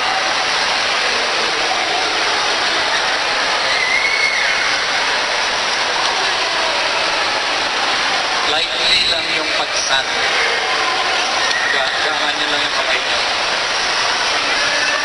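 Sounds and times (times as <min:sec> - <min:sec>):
crowd murmur: 0:00.0 - 0:15.0
faint background voices: 0:00.0 - 0:15.0.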